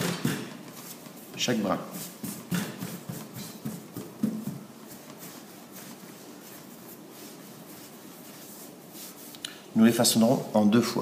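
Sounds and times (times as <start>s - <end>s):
light pats on dough: 0.0s - 9.6s
faint steady hiss: 0.0s - 11.0s
hands rubbing dough: 0.2s - 10.3s.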